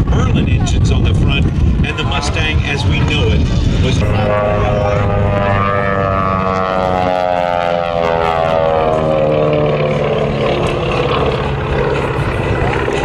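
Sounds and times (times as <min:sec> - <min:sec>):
propeller plane engine passing: 0:00.0 - 0:13.0.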